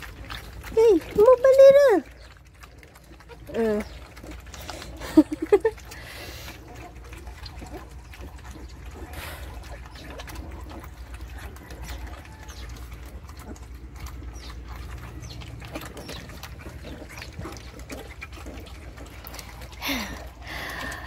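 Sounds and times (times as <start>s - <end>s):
puppies lapping food: 0.0s - 21.0s.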